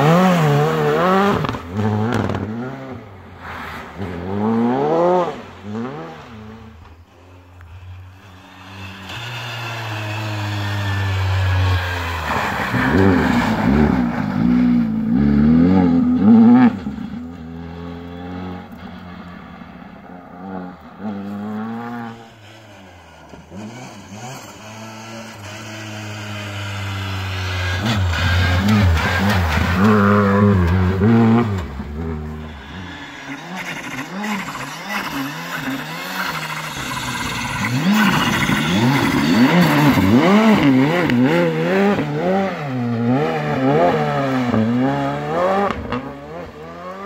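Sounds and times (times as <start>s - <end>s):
rally car engine revving hard: 0.0s - 6.8s, 8.3s - 18.9s, 20.3s - 22.5s, 23.1s - 47.0s.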